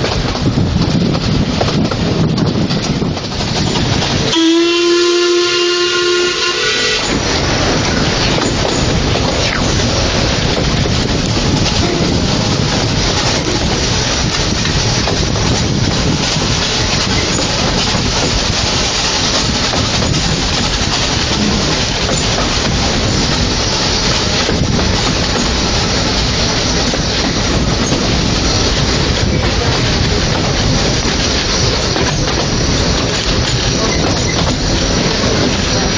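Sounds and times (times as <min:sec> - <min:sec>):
steam train rumbling on rails: 0:00.0 - 0:35.9.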